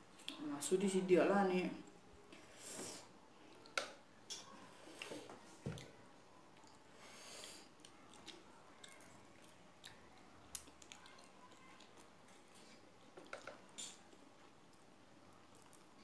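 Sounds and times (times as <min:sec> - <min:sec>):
quiet chewing: 0:01.8 - 0:16.0.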